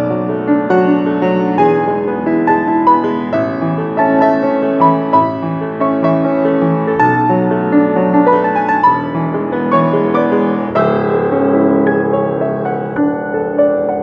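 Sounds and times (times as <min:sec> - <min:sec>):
solo piano: 0:00.0 - 0:14.0.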